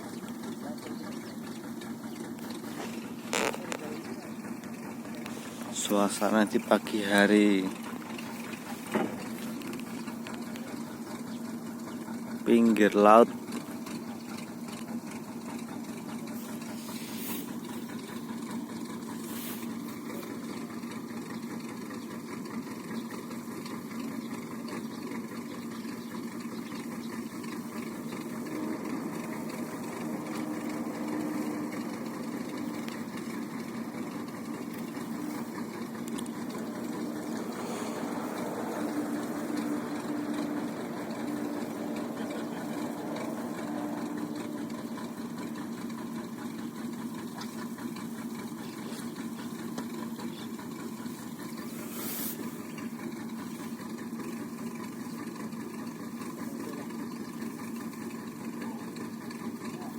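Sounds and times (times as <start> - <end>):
boat engine idling: 0.0 - 59.9
higher engine note: 0.0 - 59.9.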